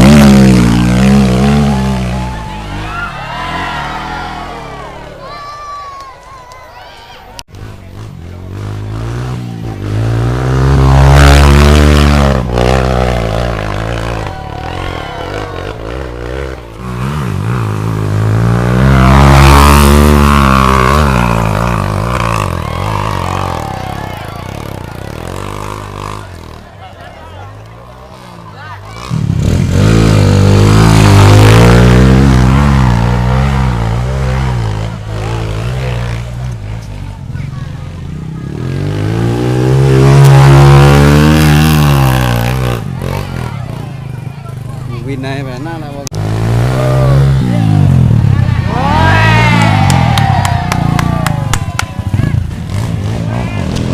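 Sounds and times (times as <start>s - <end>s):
motorcycle engine revving hard: 0.0s - 5.0s, 7.6s - 27.0s, 27.8s - 53.9s.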